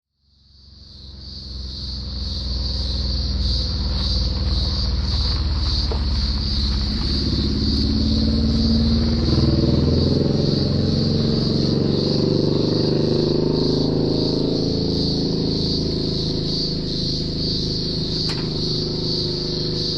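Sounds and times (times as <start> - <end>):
cicadas buzzing: 0.2 - 19.9.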